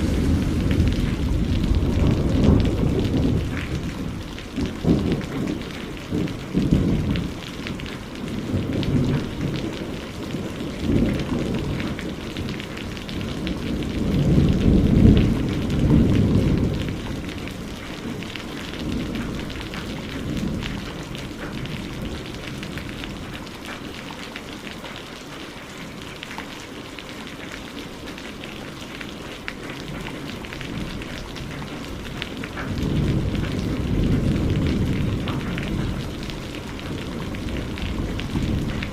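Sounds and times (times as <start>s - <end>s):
thunder rumbling: 0.0s - 23.4s, 29.7s - 38.9s
steady rain: 0.0s - 38.9s.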